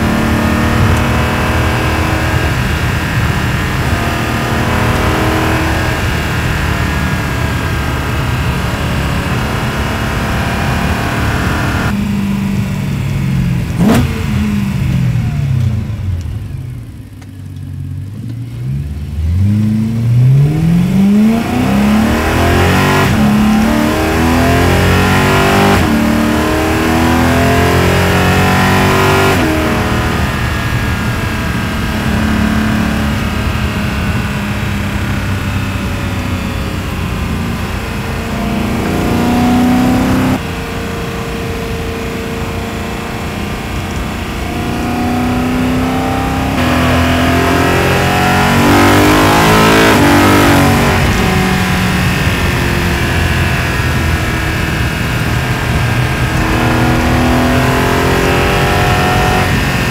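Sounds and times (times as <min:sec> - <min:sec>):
car engine revving: 0:00.0 - 0:12.0, 0:12.6 - 0:59.9.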